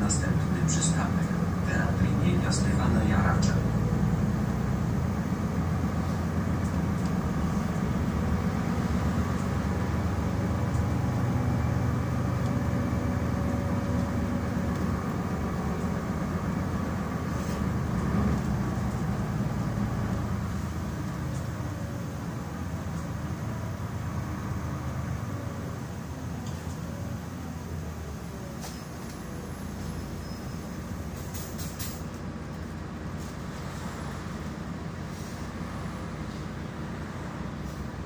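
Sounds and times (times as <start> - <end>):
bus engine and road drone: 0.0 - 38.0.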